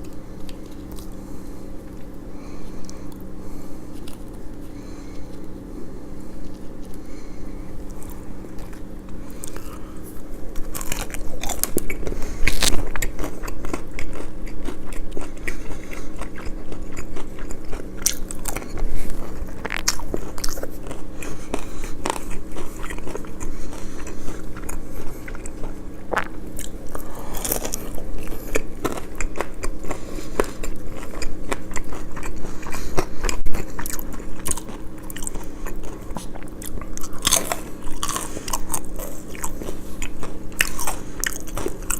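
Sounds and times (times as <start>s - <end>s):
chewing: 0.0s - 41.9s
faint low hum: 0.0s - 41.9s
crunchy bites of fried food: 7.8s - 41.9s.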